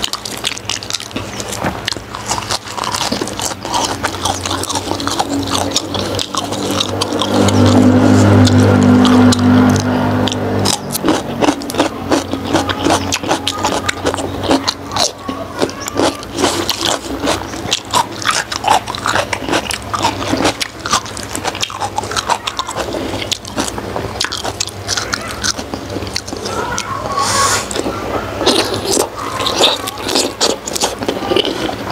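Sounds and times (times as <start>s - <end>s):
chewing and lip-smacking: 0.0s - 31.9s
steady low hum: 0.0s - 31.9s.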